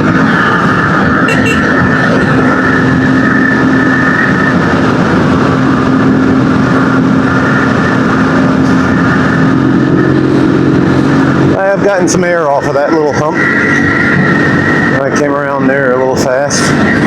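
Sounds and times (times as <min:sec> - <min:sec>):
dirt bike engine running steadily: 0:00.0 - 0:15.9.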